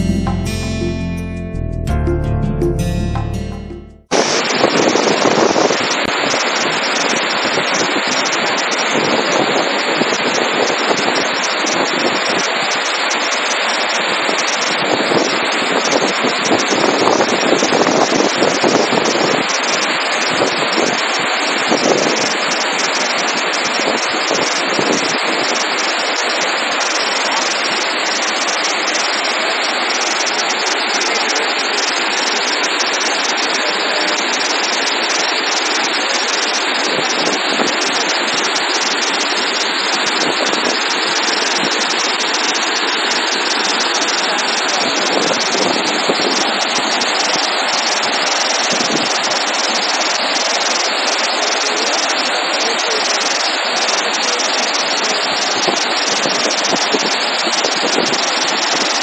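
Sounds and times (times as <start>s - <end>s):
water rushing down spillway: 4.1s - 59.0s.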